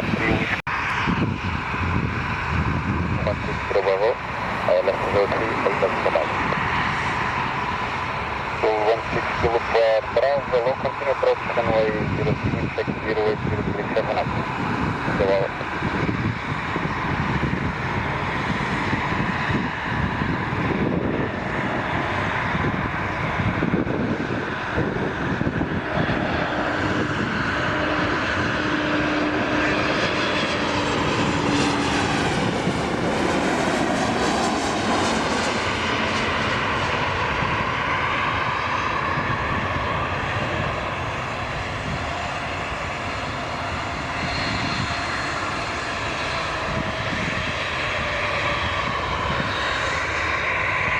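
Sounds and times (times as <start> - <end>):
airliner engines passing: 0.0 - 50.9.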